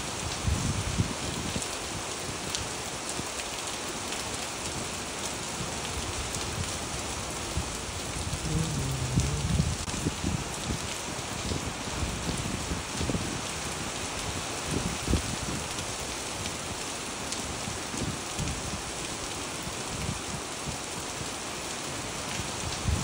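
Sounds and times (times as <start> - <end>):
rain on wet pavement: 0.0 - 23.0.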